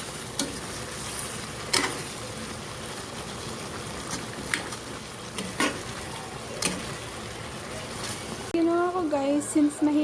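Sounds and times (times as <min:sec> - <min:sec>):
curry bubbling and sizzling in a pan: 0:00.0 - 0:10.0.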